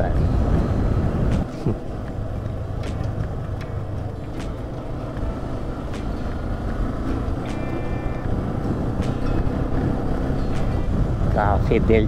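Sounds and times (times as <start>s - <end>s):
motorcycle engine hum: 0.0s - 12.0s
road and wind rumble: 0.0s - 12.0s.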